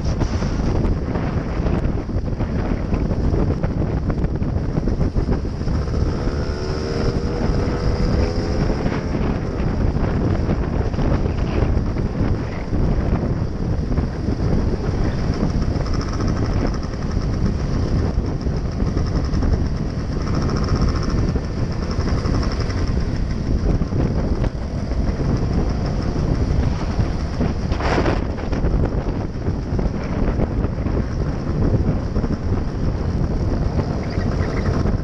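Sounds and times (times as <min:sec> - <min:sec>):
scooter engine and road noise: 0:00.0 - 0:35.0
wind buffeting microphone: 0:00.0 - 0:35.0.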